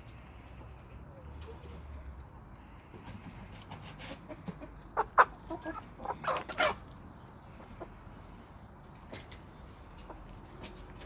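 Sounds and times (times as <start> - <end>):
chickens clucking: 0.6 - 11.0.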